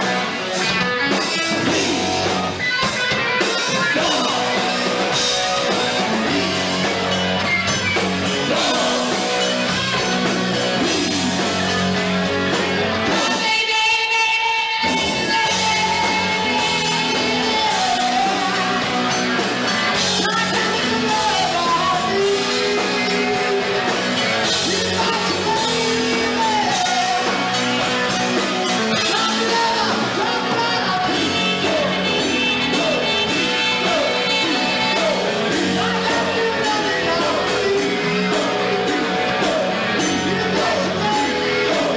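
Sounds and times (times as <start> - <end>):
drums: 0.0 - 41.9
electric guitars: 0.0 - 41.9
rock band playing: 0.0 - 41.9
man singing: 1.2 - 7.0, 8.3 - 11.6, 13.0 - 27.8, 28.7 - 41.9.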